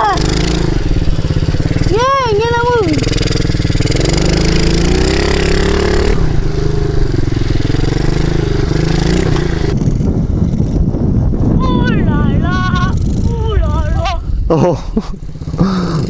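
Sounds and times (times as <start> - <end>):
dirt bike engine revving: 0.0 - 14.6, 15.2 - 16.0.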